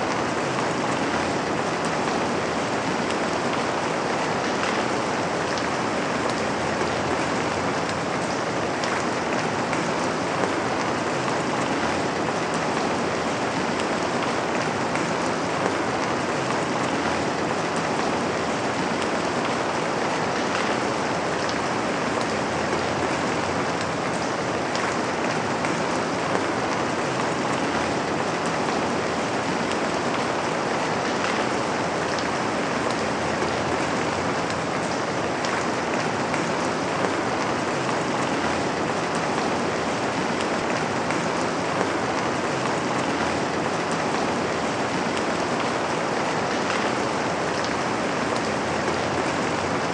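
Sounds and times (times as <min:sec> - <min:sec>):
rain on a window: 0:00.0 - 0:49.9.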